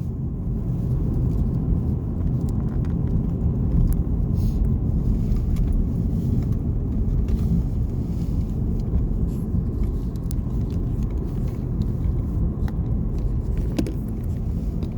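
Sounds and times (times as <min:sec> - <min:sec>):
car engine and tyre rumble: 0:00.0 - 0:14.9.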